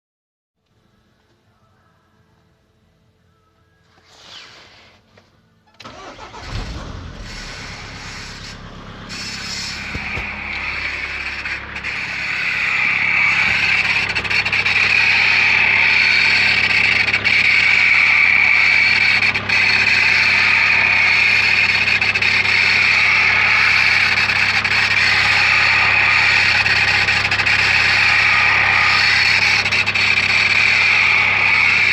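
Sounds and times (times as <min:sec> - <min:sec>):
high-pitched alternator whine: 0:00.7 - 0:31.9
low engine hum: 0:05.8 - 0:31.9.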